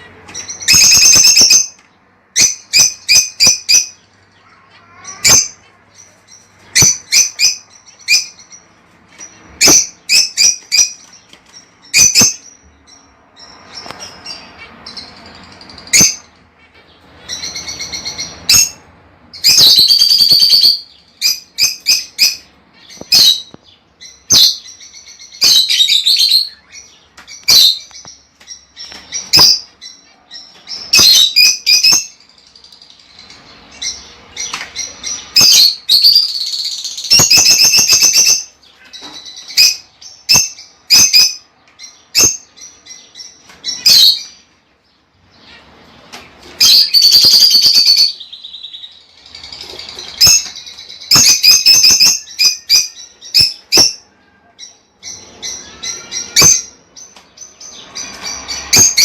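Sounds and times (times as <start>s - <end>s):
birds chattering rapidly: 0.0s - 59.0s
lovebirds chirping shrilly: 0.0s - 59.0s.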